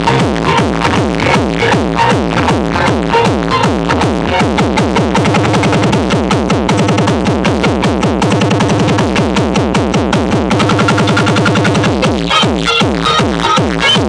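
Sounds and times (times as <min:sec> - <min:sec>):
electronic dance music: 0:00.0 - 0:14.0
steady low beat: 0:00.0 - 0:14.0.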